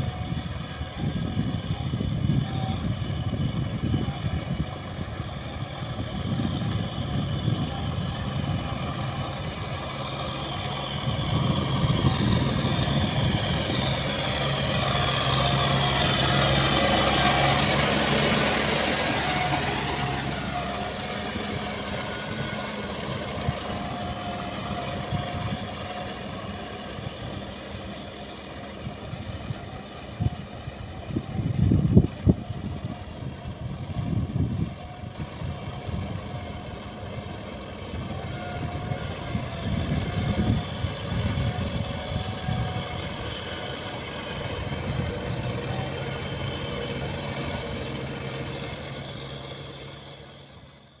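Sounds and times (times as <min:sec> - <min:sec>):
tractor diesel engine under load: 0:00.0 - 0:51.0.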